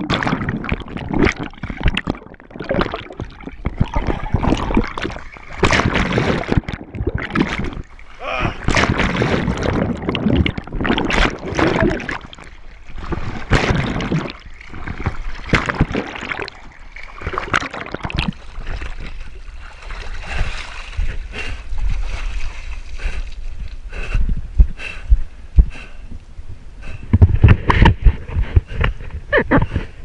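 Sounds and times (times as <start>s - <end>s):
water splashing and gurgling: 0.0s - 25.0s.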